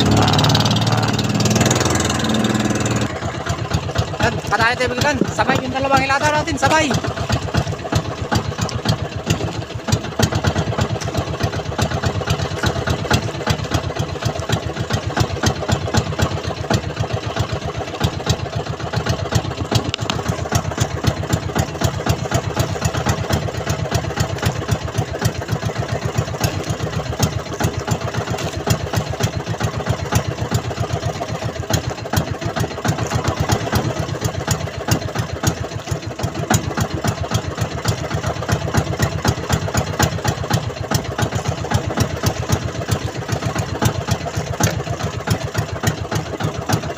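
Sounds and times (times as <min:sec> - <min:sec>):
boat engine chugging: 0:00.0 - 0:46.9.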